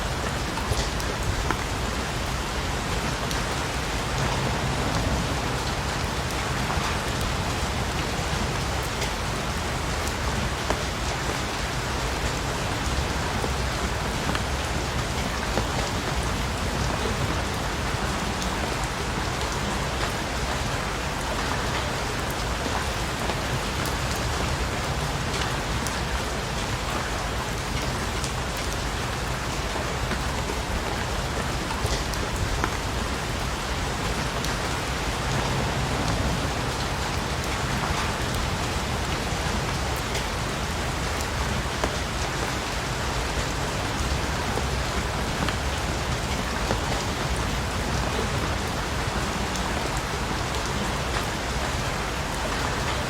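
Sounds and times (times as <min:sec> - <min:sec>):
rain falling on a surface: 0:00.0 - 0:53.0.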